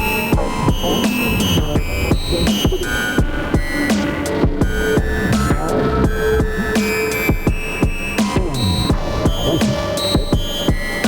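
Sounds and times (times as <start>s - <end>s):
drum machine beat: 0.0s - 11.0s.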